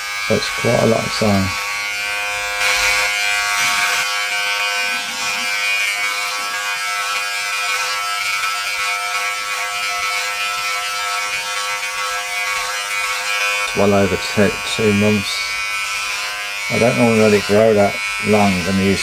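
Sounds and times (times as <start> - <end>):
electric trimmer buzzing: 0.0 - 19.0.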